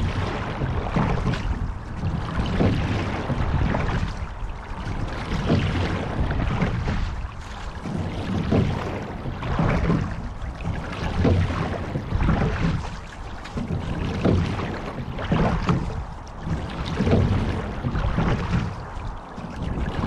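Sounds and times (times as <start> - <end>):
oars stroking water: 0.0 - 20.0
water rushing along hull: 0.0 - 20.0.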